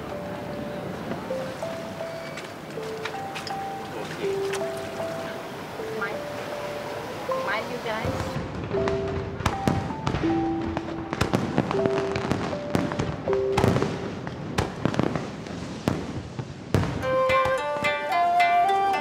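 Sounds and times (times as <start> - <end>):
background music of held notes: 0.0 - 15.1, 16.9 - 19.0
fireworks bursting: 0.0 - 18.0.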